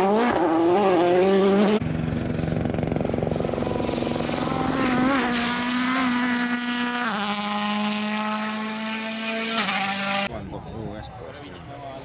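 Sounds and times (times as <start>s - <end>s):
rally car engine revving: 0.0s - 10.3s.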